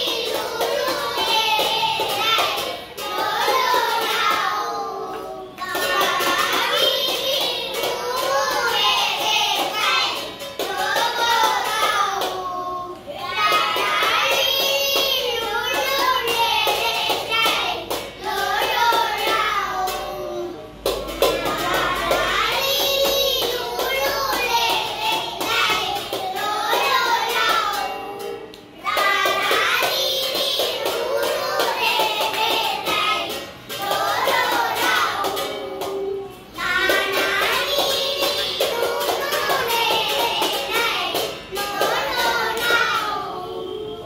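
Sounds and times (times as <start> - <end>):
children singing together: 0.0 - 44.0.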